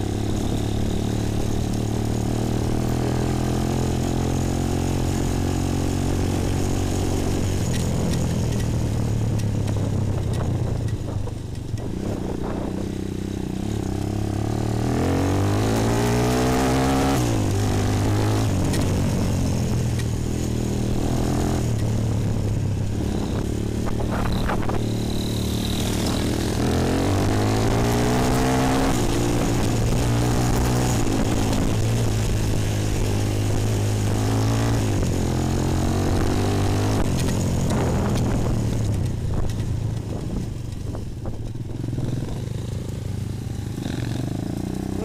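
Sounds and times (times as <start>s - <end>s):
quad bike engine revving: 0.0s - 10.4s, 11.8s - 39.8s, 41.7s - 45.0s.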